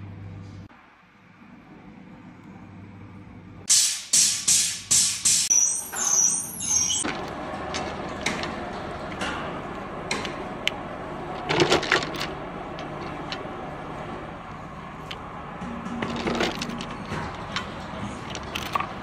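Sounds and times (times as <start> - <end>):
low workshop background: 0.0 - 19.0.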